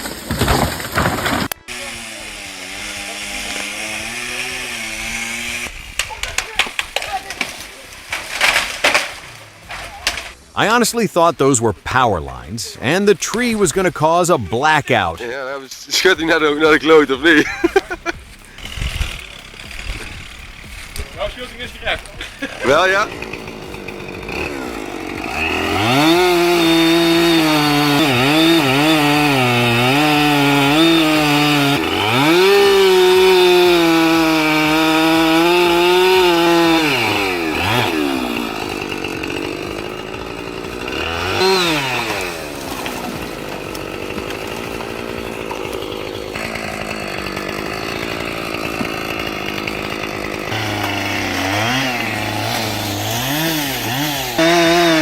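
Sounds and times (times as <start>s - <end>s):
chainsaw cutting wood: 0.0s - 10.4s, 13.2s - 55.0s.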